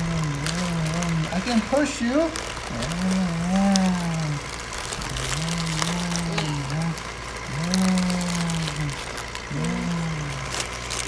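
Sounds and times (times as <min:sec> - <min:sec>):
person imitating truck engine hums: 0:00.0 - 0:11.0.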